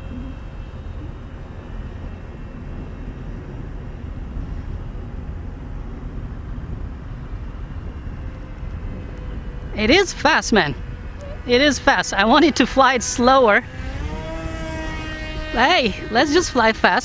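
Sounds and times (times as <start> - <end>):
distant electric motor whine: 0.0 - 17.0
wind buffeting microphone: 0.0 - 17.0.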